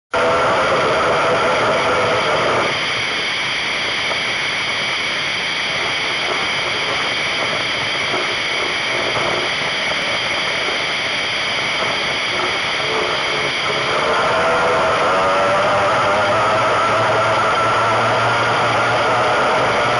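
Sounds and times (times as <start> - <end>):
powerboat engine whine: 0.1 - 19.9.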